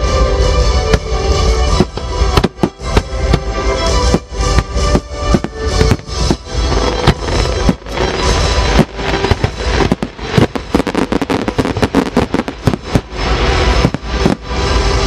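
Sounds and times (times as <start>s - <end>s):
fireworks bangs and crackles: 0.0s - 15.0s
music playing: 0.0s - 15.0s.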